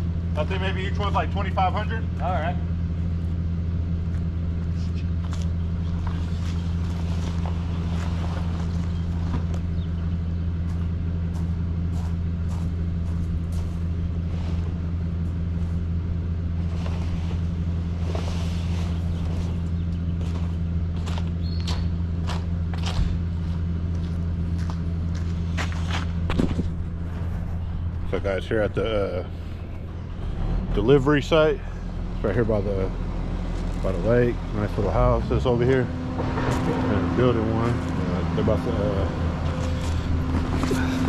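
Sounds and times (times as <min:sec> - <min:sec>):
truck engine idling: 0:00.0 - 0:41.0.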